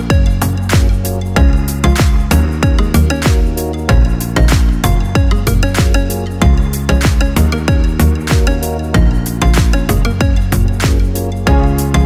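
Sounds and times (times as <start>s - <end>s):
background music with beat and bass: 0.0s - 12.0s.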